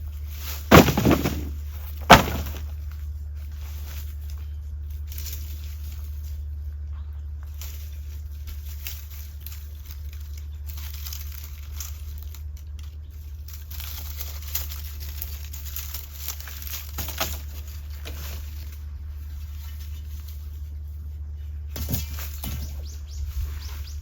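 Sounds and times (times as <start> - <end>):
crackling and rustling: 0.0 - 24.0
steady low hum: 0.0 - 24.0.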